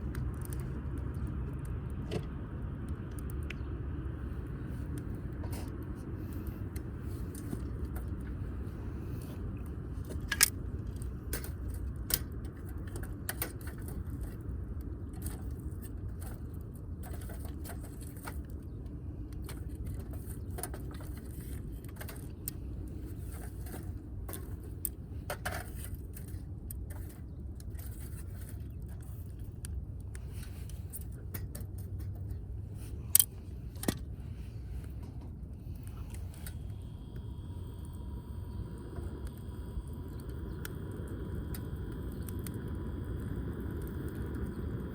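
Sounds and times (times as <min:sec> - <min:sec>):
wood fire popping and clicking: 0:00.0 - 0:34.1, 0:34.8 - 0:44.9.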